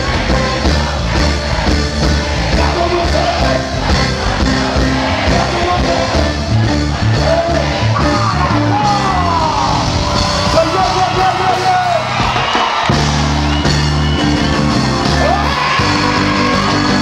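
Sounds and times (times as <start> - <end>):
reggae backing with heavy bass: 0.0 - 17.0.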